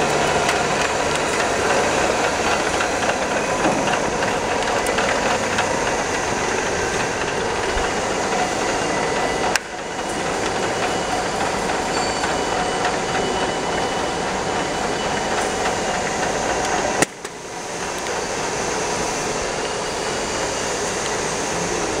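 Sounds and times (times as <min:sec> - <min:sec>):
factory machinery clattering: 0:00.0 - 0:22.0
faint machine whines: 0:00.0 - 0:22.0.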